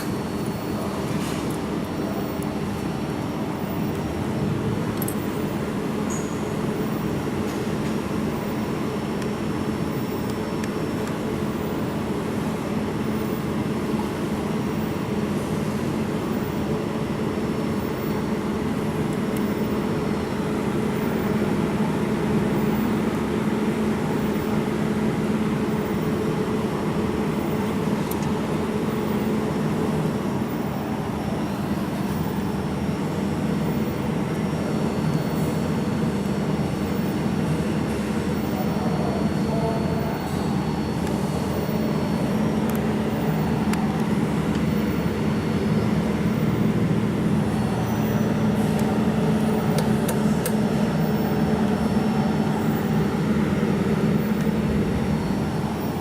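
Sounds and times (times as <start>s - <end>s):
machine hum and whir: 0.0s - 56.0s.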